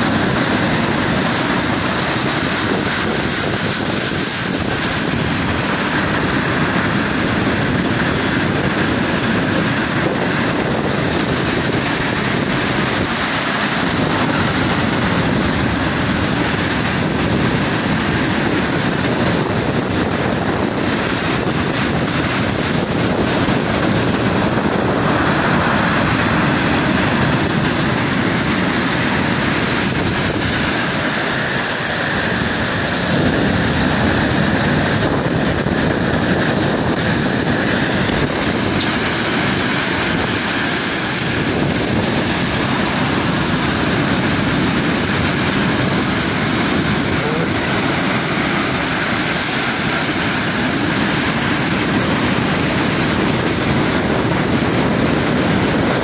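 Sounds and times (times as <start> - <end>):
waves breaking on beach: 0.0 - 56.0
wind on microphone: 0.0 - 56.0.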